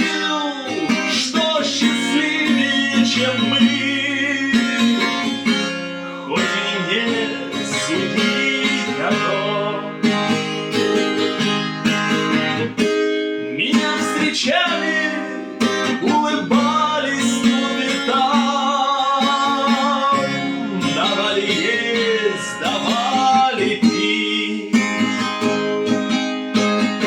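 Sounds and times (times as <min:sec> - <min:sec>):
acoustic guitar strummed and picked: 0:00.0 - 0:27.0.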